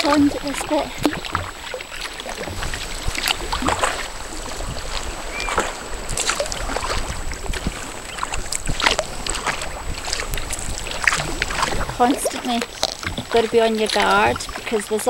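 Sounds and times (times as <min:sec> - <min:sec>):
paddle splashing and dripping water: 0:00.0 - 0:15.0.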